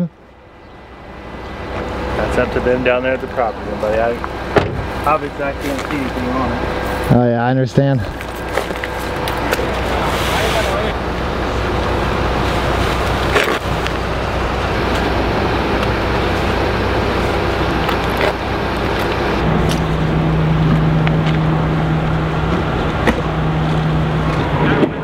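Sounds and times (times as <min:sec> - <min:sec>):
steady hum: 0:00.0 - 0:25.0
vehicle engine idling: 0:00.0 - 0:25.0.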